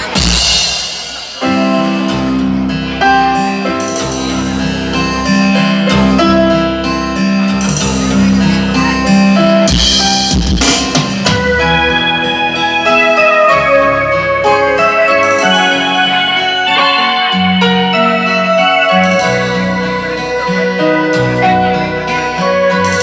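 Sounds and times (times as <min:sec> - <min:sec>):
instrumental music with bass and drums: 0:00.0 - 0:23.0.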